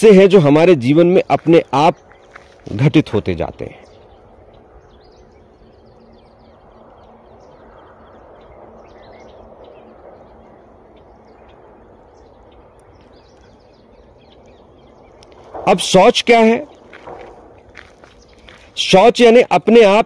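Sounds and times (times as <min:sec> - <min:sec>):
small birds chirping: 0:00.0 - 0:20.0
steady background noise: 0:00.0 - 0:20.0.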